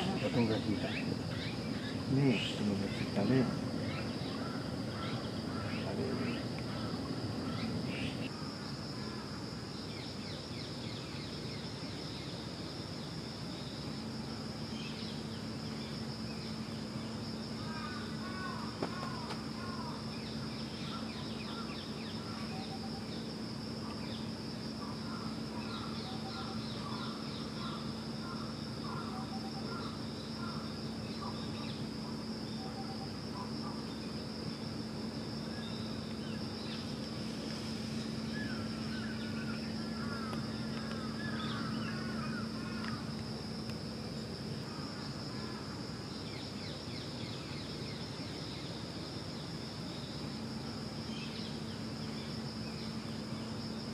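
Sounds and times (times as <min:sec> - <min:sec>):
high-pitched insect drone: 0:00.0 - 0:53.9
low steady hum: 0:00.0 - 0:53.9.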